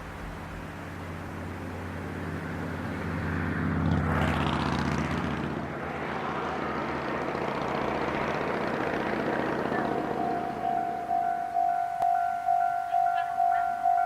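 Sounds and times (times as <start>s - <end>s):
diesel railcar engine hum: 0.0s - 14.0s
train wheels rumbling on rails: 0.0s - 14.0s.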